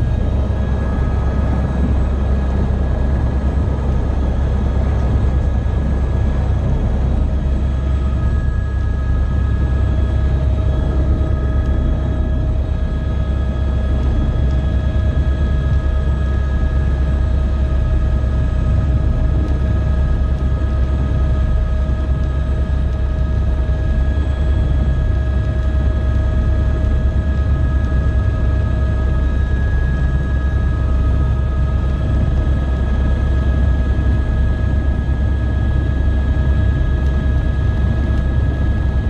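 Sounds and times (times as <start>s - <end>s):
helicopter engine and rotor running: 0.0s - 39.0s.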